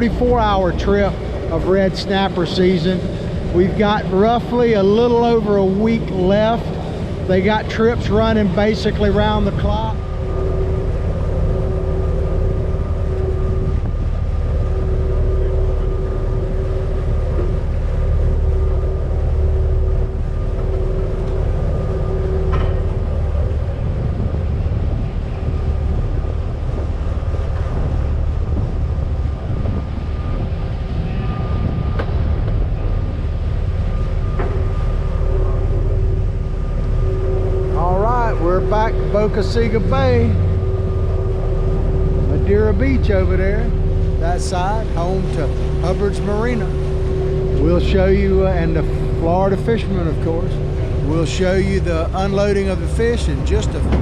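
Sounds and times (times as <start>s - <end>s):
boat engines droning: 0.0s - 54.0s.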